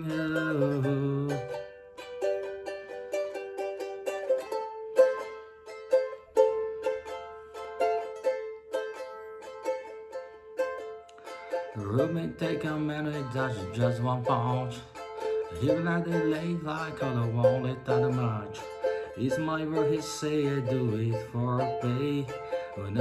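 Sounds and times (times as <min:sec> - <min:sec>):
ukulele strumming: 0:00.0 - 0:23.0.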